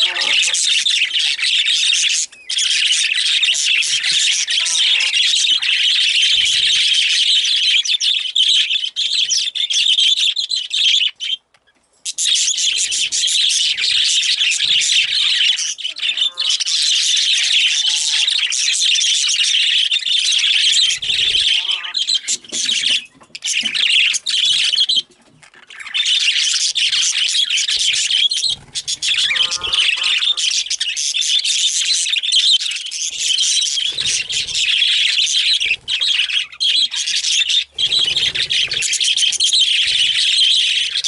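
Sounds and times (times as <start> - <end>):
budgerigars chattering and chirping: 0.0 - 41.0.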